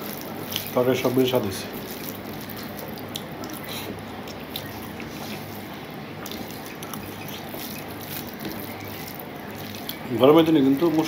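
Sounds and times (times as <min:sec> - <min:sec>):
fingers squishing rice on plate: 0:00.0 - 0:11.0
soft chewing: 0:00.0 - 0:11.0.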